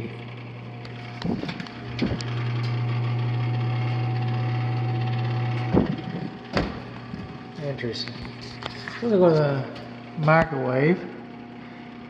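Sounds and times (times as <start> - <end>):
oven fan humming with rattle: 0.0 - 12.0.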